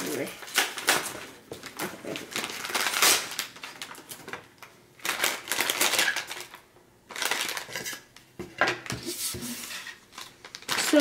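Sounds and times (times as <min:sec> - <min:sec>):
plastic bag crinkling: 0:00.0 - 0:08.1, 0:10.1 - 0:11.0.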